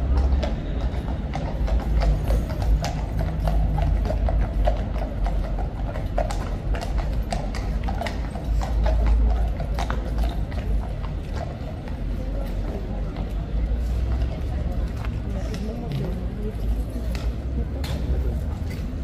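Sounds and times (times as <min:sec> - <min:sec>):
hooves clip-clopping on pavement: 0:00.0 - 0:19.0.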